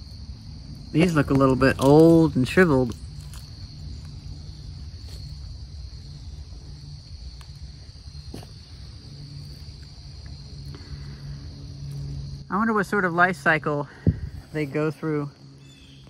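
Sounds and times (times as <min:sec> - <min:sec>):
low rumble: 0:00.0 - 0:15.7
insects chorus: 0:00.0 - 0:16.0.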